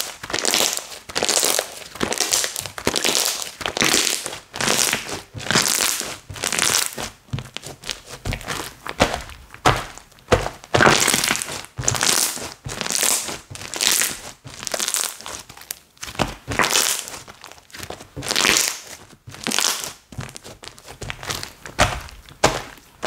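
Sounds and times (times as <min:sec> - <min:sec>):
slime squished by hand: 0:00.0 - 0:23.0.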